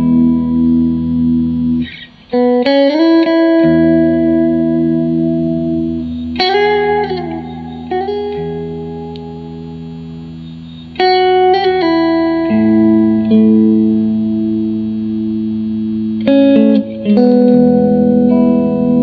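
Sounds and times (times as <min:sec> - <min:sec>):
clean electric guitar chords: 0:00.0 - 0:19.0.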